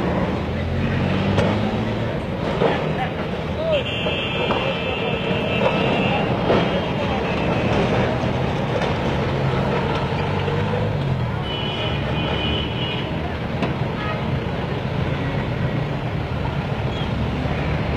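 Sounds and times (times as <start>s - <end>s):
tram engine rumble: 0.0s - 17.9s.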